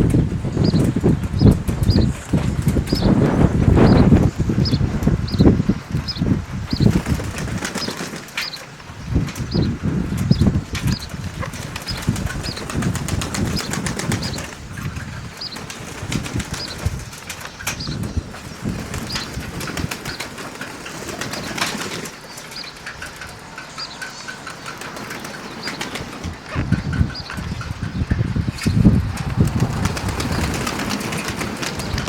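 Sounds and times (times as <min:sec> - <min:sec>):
strong gusty wind buffeting microphone: 0:00.0 - 0:32.0.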